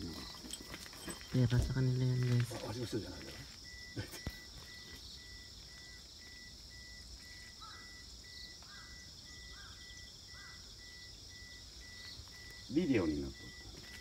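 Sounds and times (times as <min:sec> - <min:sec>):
faint higher insect chirps: 0:00.0 - 0:14.0
insects chirping and buzzing: 0:00.0 - 0:14.0.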